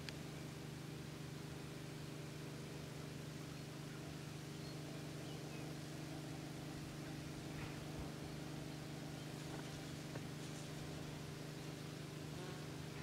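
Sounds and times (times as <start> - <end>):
motor humming steadily: 0.0 - 13.0.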